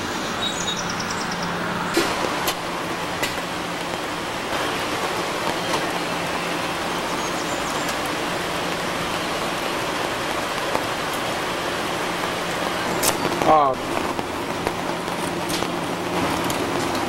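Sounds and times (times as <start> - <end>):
river rapids rushing: 1.4 - 17.0.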